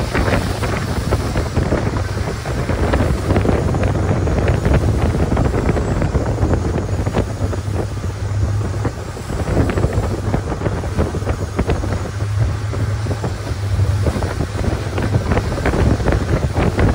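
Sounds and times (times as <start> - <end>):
boat engine droning: 0.0 - 16.9
wind buffeting microphone: 0.0 - 16.9.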